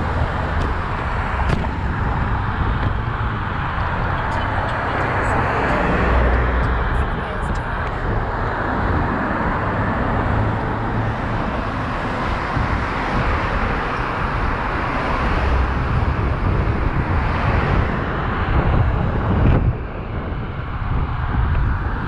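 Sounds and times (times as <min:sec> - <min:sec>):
passing car traffic: 0:00.0 - 0:22.0
wind over microphone: 0:00.0 - 0:22.0.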